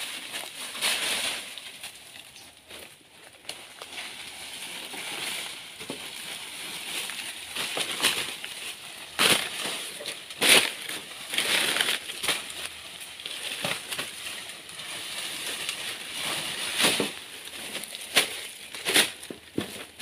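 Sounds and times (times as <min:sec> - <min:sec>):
dry leaves crackling and rustling: 0:00.0 - 0:20.0.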